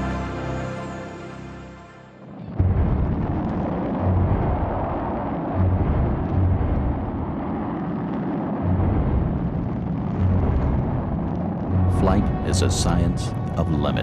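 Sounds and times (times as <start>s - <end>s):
engine roaring: 0.0s - 7.6s, 8.5s - 14.0s.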